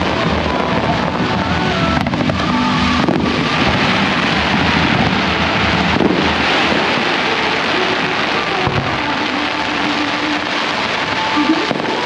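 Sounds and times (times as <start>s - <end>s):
fireworks crackling and rumbling: 0.0s - 12.0s
sharp firework bangs: 0.0s - 12.0s.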